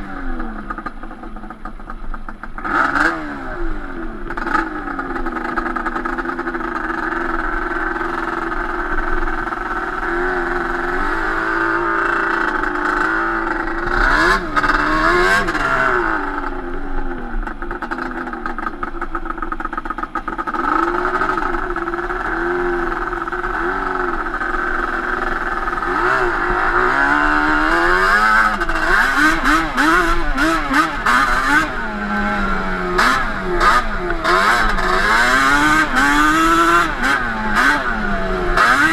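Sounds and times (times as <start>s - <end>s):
two-stroke engine revving: 0.0s - 38.9s.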